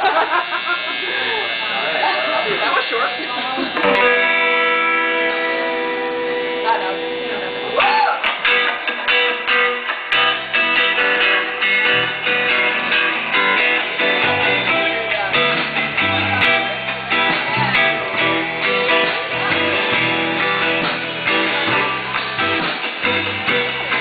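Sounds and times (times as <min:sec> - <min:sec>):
strummed electric guitar: 0:00.0 - 0:24.0
live band music: 0:03.8 - 0:24.0.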